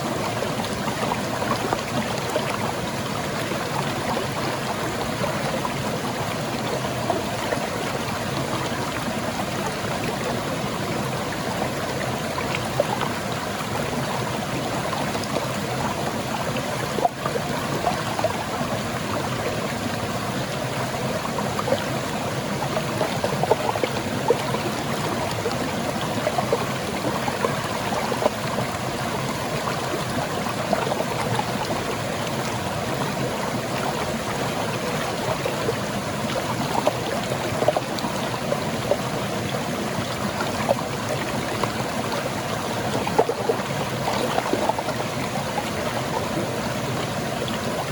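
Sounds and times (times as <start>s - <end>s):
small water splashes: 0.0s - 47.9s.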